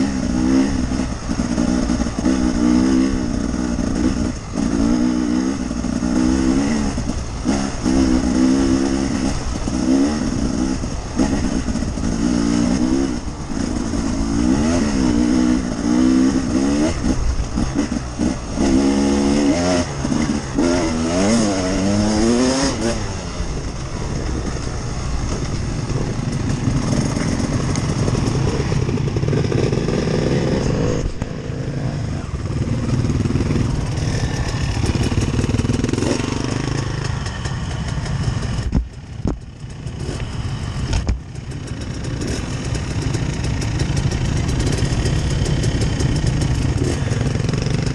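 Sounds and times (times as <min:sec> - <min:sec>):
dirt bike engine revving: 0:00.0 - 0:47.9
other dirt bikes running: 0:00.0 - 0:47.9.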